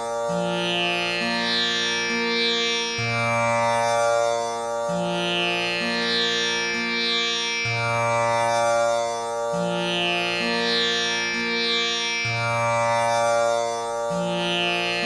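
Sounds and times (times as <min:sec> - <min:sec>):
tanpura strings plucked drone: 0:00.0 - 0:15.0.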